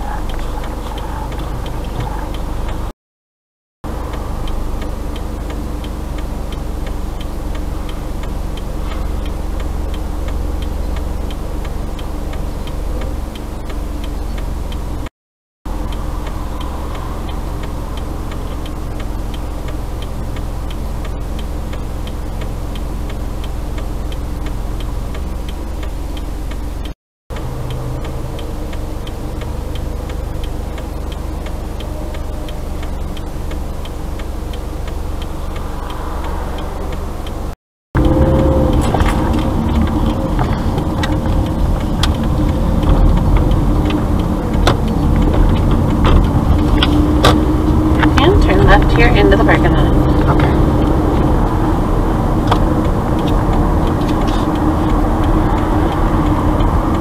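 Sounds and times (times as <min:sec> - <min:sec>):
car engine idling: 0:00.0 - 0:02.9, 0:03.9 - 0:15.1, 0:15.7 - 0:57.0
car turn signal clicking: 0:00.0 - 0:02.9, 0:04.0 - 0:15.1, 0:15.9 - 0:57.0.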